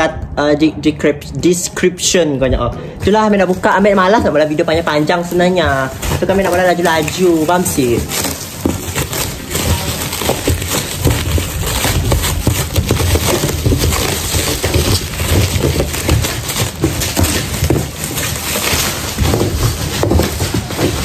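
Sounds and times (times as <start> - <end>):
plastic wrap crinkling and tearing: 2.8 - 21.0.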